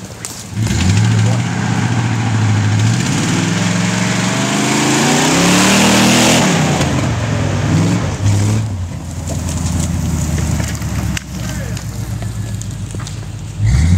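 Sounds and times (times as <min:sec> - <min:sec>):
pickup truck engine revving: 0:00.5 - 0:13.9.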